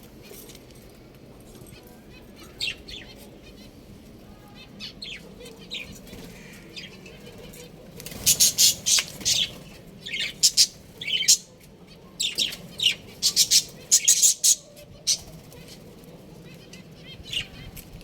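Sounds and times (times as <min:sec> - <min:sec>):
birds chirping and squawking: 0:01.7 - 0:03.9, 0:04.5 - 0:17.8.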